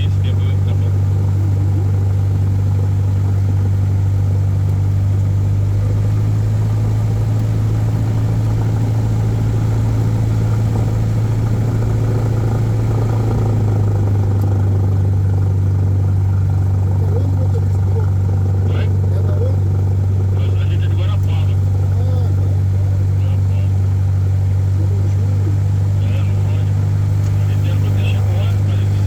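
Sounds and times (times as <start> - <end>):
airplane engine droning: 0.0 - 29.0.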